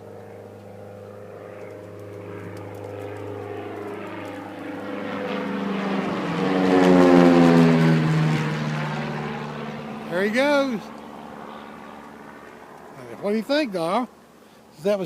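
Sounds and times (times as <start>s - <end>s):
propeller plane flying overhead: 0.0s - 15.0s.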